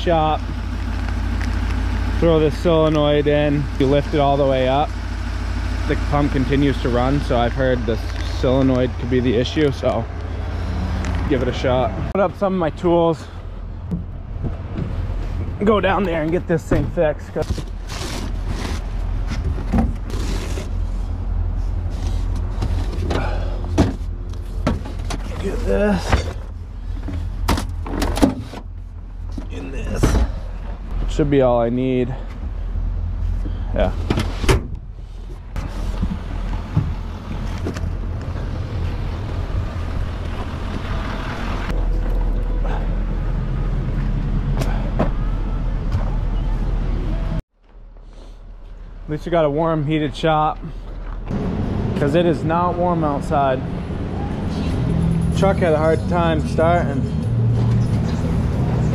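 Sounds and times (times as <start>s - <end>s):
engine idling: 0.0s - 47.4s.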